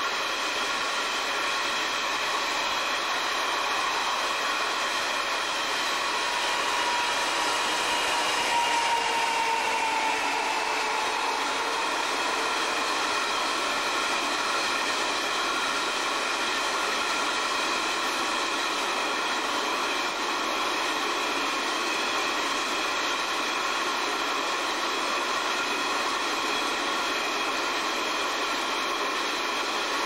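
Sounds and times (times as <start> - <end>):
steady whine of held tones: 0.0 - 30.0.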